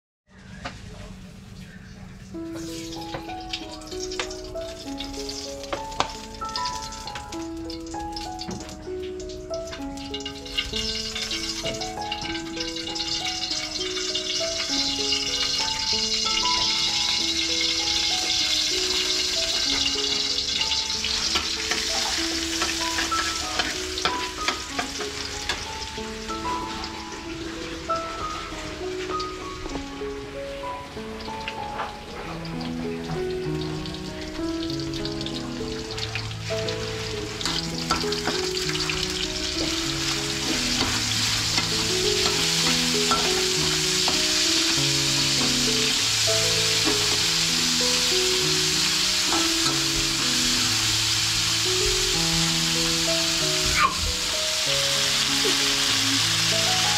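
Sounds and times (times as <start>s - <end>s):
food sizzling in hot oil: 2.4s - 56.9s.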